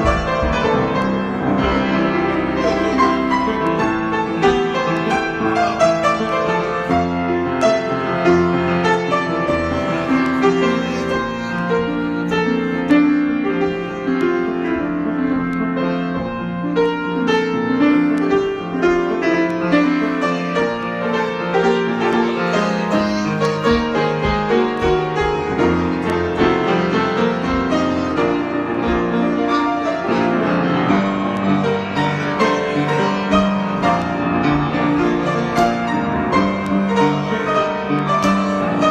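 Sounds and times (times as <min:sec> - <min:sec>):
piano improvisation: 0:00.0 - 0:38.9.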